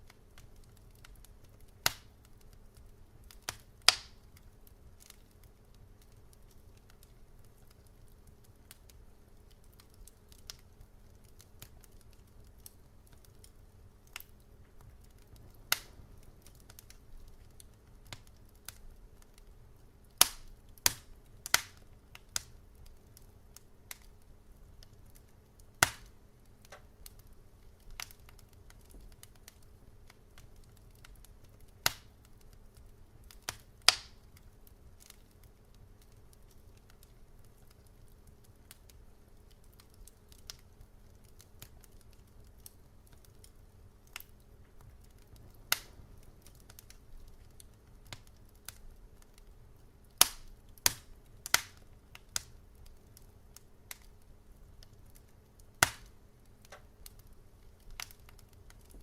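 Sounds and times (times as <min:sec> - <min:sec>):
faint low hum: 0:00.0 - 0:59.0
wood fire crackling and popping: 0:00.0 - 0:59.0.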